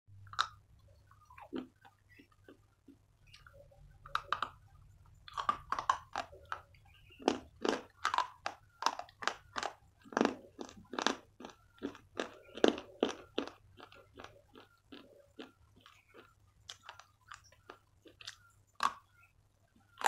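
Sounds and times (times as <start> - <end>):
crunchy chewing: 0.2 - 20.0.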